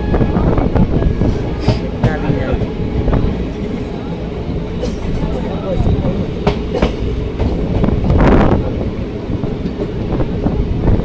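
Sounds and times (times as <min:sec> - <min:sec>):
train rumble and rush: 0:00.0 - 0:11.0.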